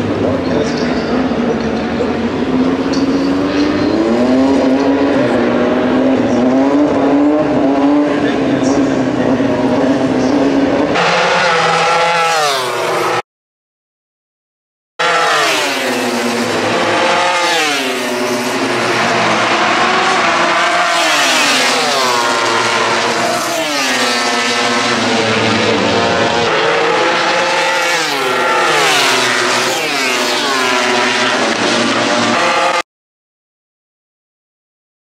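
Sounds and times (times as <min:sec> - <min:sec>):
racing motorcycles at full throttle: 0:00.0 - 0:13.2, 0:15.0 - 0:32.8.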